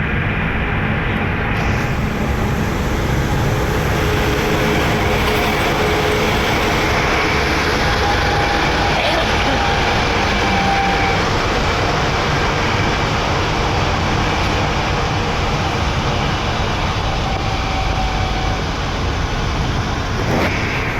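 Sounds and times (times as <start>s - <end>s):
road noise: 0.8s - 20.9s
truck engine rumble: 1.0s - 20.9s.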